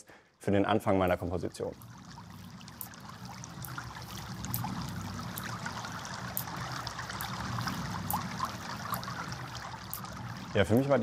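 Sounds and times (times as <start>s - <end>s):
low steady hum: 0.1s - 11.0s
water trickling and dripping: 0.1s - 11.0s.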